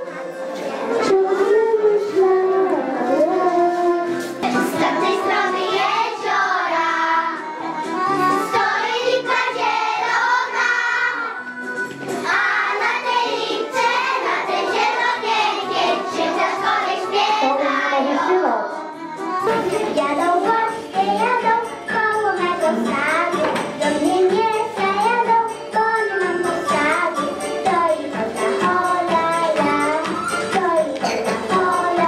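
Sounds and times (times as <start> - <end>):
children singing folk song: 0.0 - 11.4, 12.0 - 32.0.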